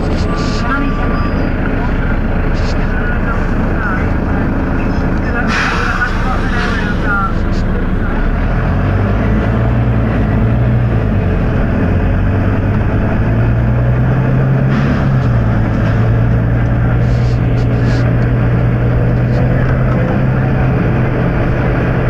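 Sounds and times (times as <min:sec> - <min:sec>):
bus diesel engine running: 0:00.0 - 0:22.0.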